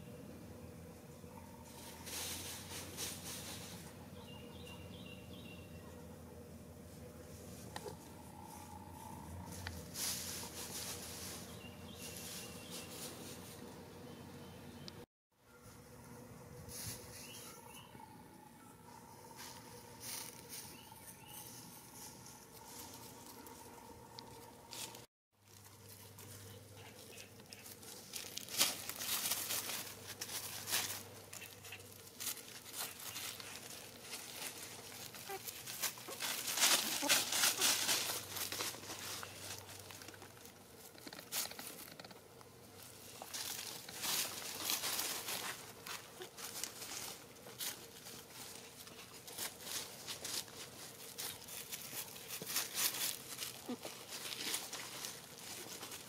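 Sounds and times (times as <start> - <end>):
leaves rustling and crinkling: 1.3 - 5.4, 6.8 - 13.8, 15.6 - 17.9, 18.9 - 56.0.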